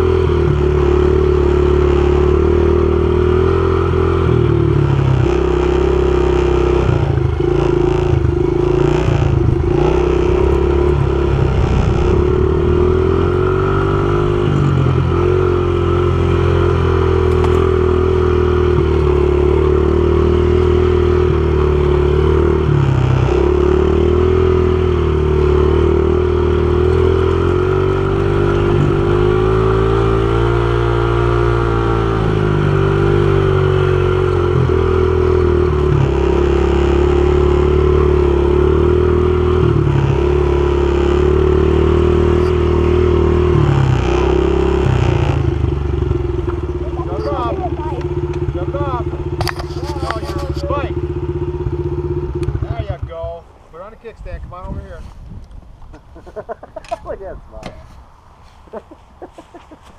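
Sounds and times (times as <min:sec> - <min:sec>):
dirt bike engine running: 0:00.0 - 0:53.6.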